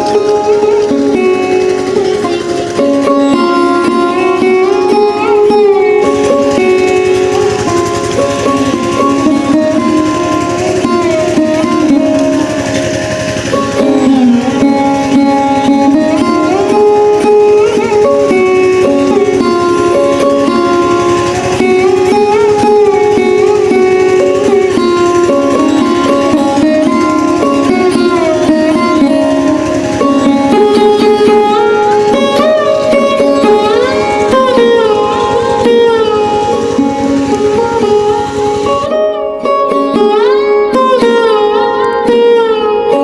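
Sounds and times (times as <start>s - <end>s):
plucked string melody: 0.0s - 43.0s.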